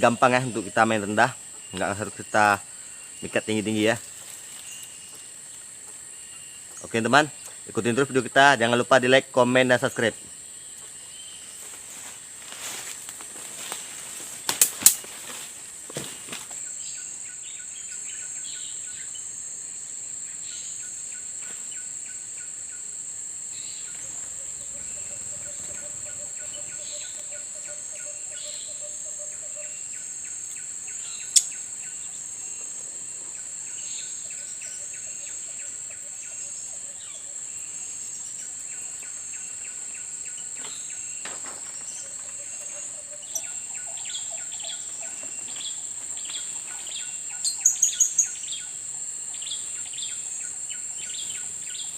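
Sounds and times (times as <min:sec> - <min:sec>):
high-pitched insect drone: 0:00.0 - 0:51.9
small birds chirping faintly: 0:00.0 - 0:51.9.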